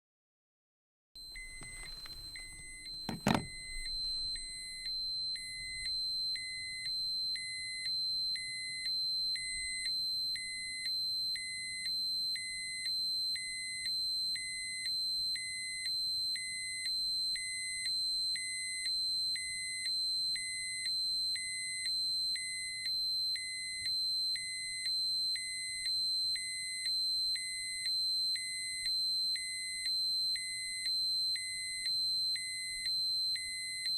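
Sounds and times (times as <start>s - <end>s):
steady high alarm tone: 1.2s - 33.9s.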